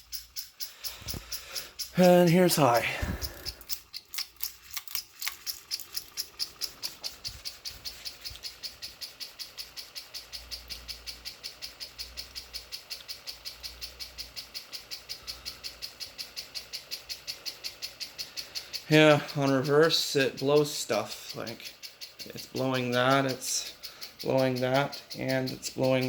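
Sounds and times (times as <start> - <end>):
ceiling fan ticking: 0.0 - 26.0.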